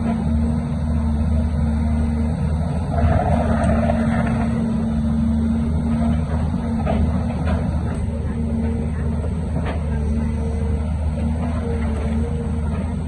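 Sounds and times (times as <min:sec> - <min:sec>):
heavy machinery diesel engine running: 0:00.0 - 0:13.0.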